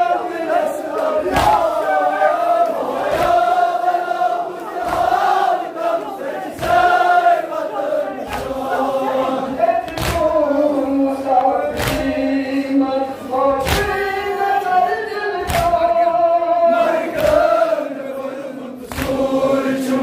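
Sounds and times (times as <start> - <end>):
crowd of men chanting: 0.0 - 20.0.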